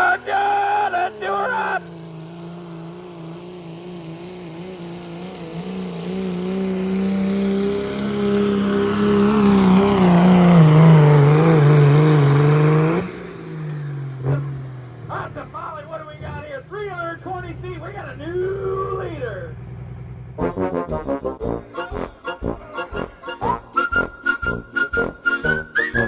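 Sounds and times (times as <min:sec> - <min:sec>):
diesel tractor engine at full throttle: 0:00.0 - 0:26.0.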